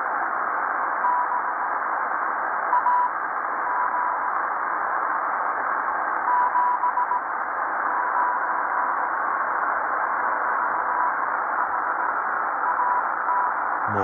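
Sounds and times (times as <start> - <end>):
radio band noise hiss: 0.0 - 14.0.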